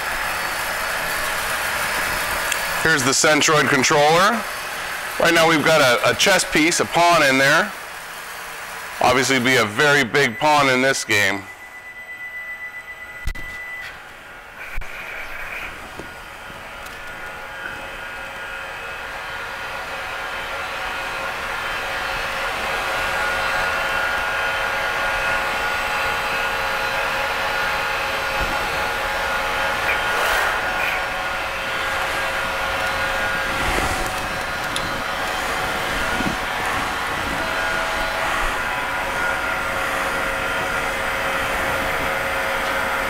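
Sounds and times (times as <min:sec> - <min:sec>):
lathe machine whine: 0:00.0 - 0:43.0.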